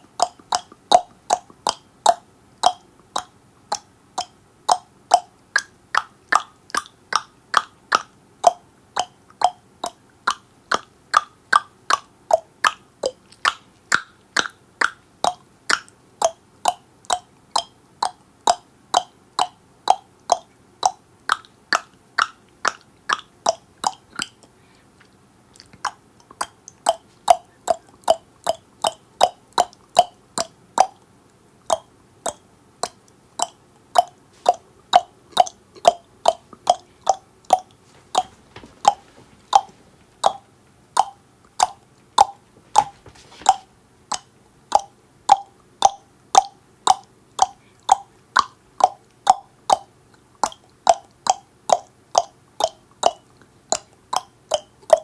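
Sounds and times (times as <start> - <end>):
tongue clicks: 0.1 - 55.0.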